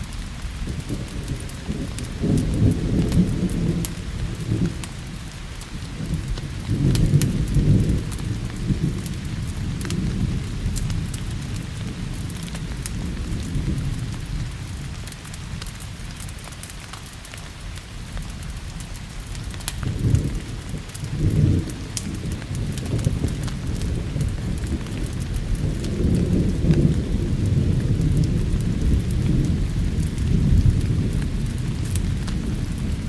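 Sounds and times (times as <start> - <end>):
steady rain: 0.0 - 33.0
wood fire crackling: 0.0 - 33.0
rolling thunder: 0.3 - 16.2, 19.6 - 33.0.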